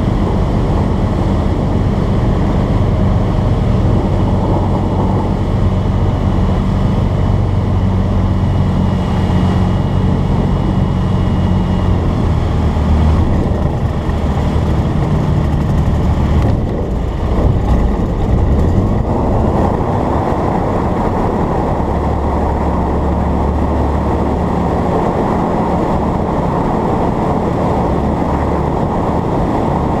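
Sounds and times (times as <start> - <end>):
light aircraft engine and propeller: 0.0 - 30.0
rush of air noise: 0.0 - 30.0.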